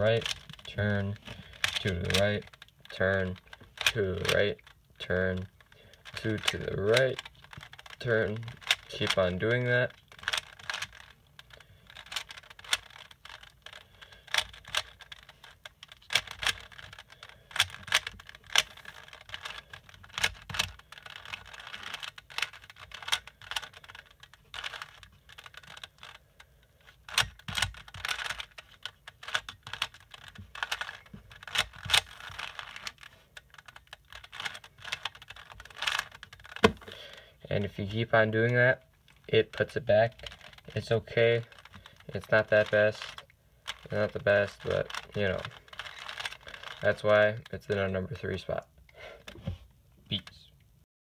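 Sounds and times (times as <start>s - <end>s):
puzzle cube clicking: 0.0s - 48.6s.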